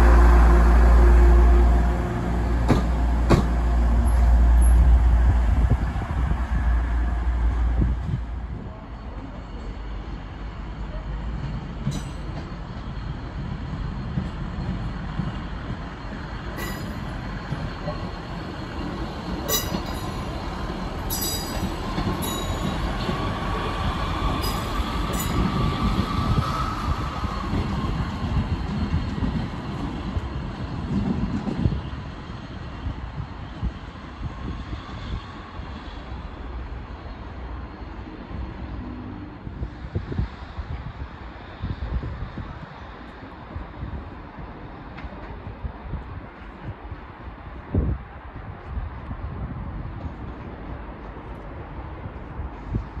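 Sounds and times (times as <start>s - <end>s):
train rumble and engine drone: 0.0s - 53.0s.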